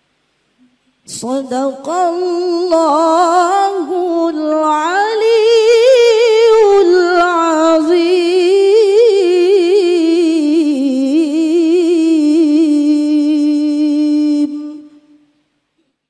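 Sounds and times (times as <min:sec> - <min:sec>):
woman chanting with vibrato: 0:01.1 - 0:15.2.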